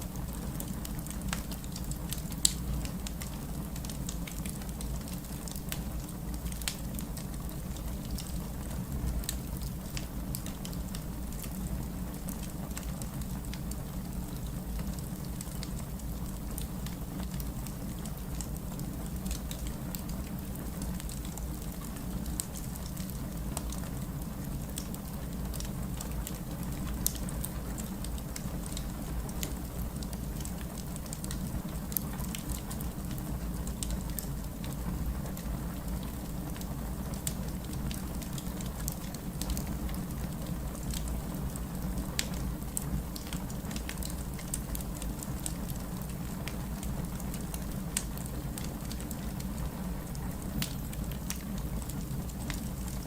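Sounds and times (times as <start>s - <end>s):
fire crackling and popping: 0.0s - 53.0s.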